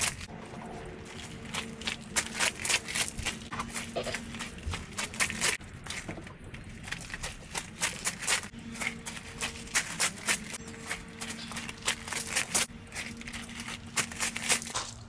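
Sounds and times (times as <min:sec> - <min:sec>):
rubbish crackling and rustling: 0:00.0 - 0:15.0.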